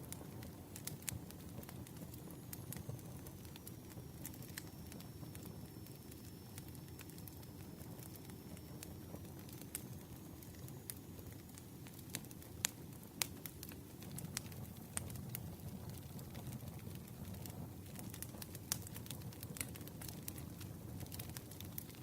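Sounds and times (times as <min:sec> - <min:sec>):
campfire flames rumbling: 0:00.0 - 0:22.0
fire crackling and popping: 0:00.0 - 0:22.0.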